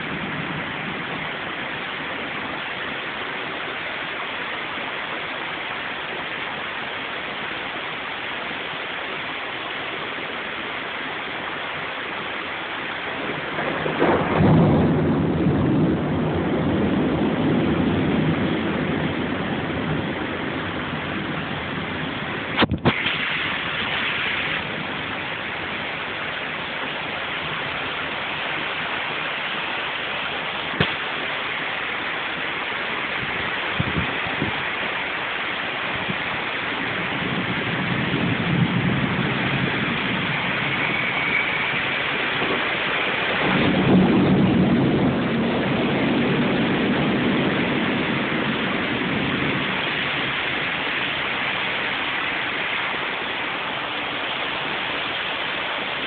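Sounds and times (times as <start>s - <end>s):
low thunder rumbling: 0.0s - 7.4s, 12.8s - 56.0s
heavy rain hissing: 0.0s - 56.0s.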